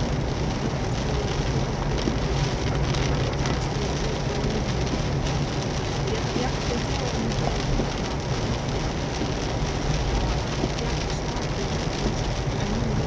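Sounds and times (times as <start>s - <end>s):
heavy rain on car roof: 0.0s - 13.0s
low rumble of moving car: 0.0s - 13.0s.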